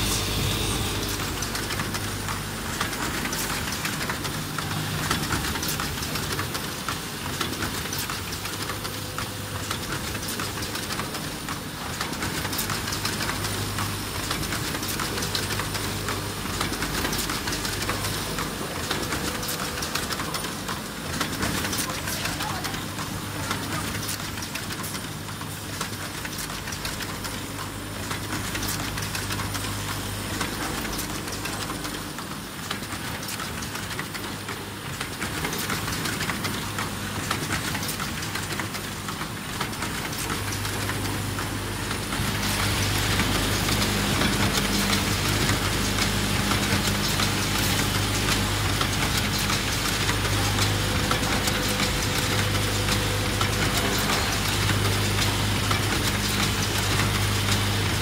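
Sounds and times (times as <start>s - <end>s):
machine clicking and clacking: 0.0s - 58.0s
machine hum: 0.0s - 58.0s.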